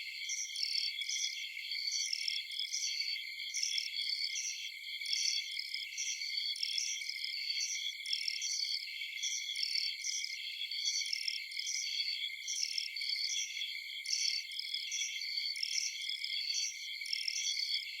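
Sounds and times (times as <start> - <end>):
crickets chirping: 0.1 - 18.0.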